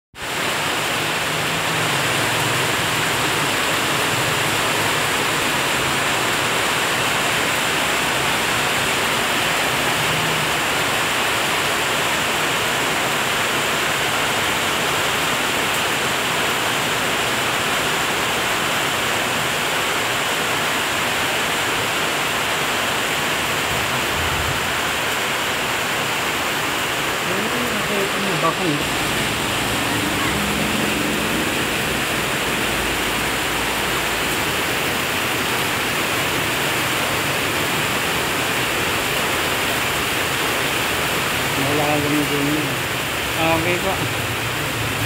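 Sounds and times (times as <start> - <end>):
steady rain falling: 0.2 - 45.0.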